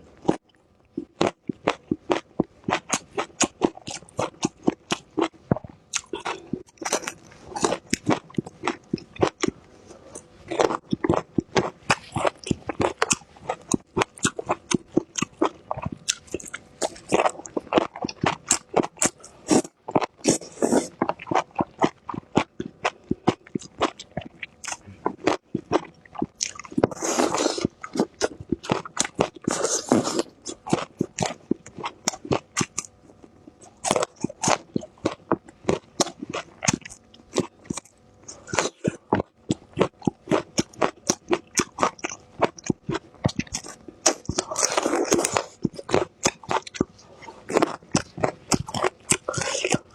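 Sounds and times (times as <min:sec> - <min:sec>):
crunchy chewing: 0:00.1 - 0:49.9.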